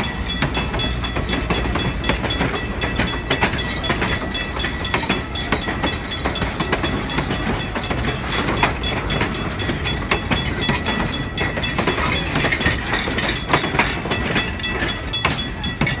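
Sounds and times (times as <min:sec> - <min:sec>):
train rumble: 0:00.0 - 0:16.0
wheel clicks over rails: 0:00.0 - 0:16.0.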